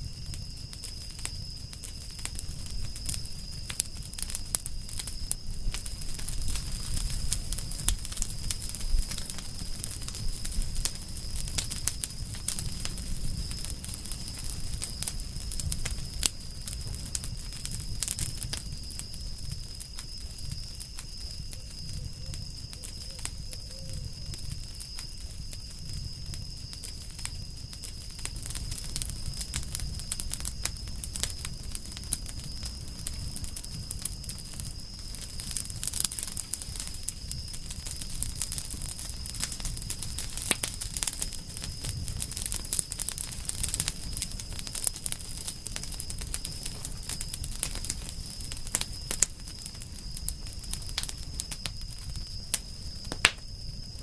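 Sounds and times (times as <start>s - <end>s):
campfire crackling and popping: 0.0s - 54.0s
flames rumbling: 0.0s - 54.0s.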